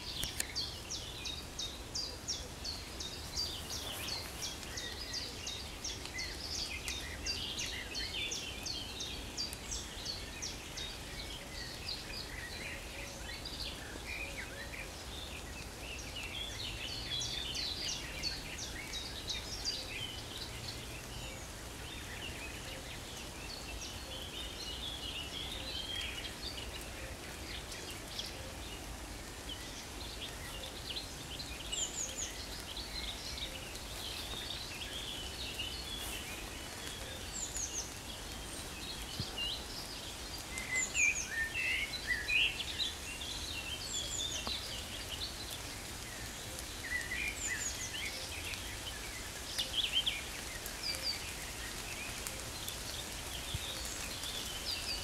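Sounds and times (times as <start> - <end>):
songbirds warbling: 0.0 - 55.0.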